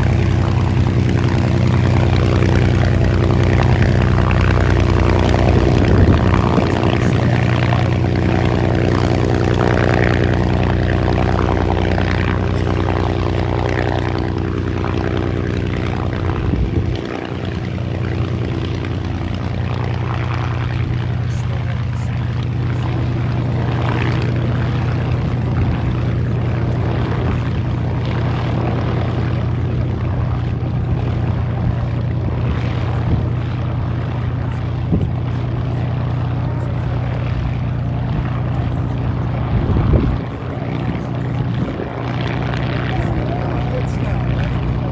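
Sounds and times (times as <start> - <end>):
aircraft engine running steadily: 0.0 - 44.9.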